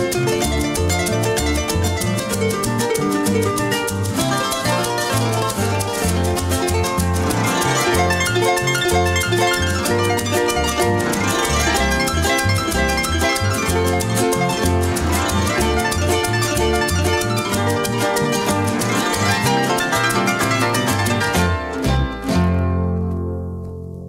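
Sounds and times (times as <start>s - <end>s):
stepping bass line: 0.0s - 23.8s
guitars: 0.0s - 24.0s
harp plucked melody: 0.0s - 24.0s.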